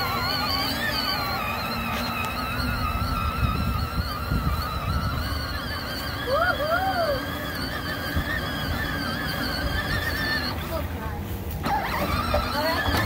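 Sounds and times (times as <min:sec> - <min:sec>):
electric motors whining: 0:00.0 - 0:13.0
plastic wheels rumbling on grass: 0:00.0 - 0:13.0.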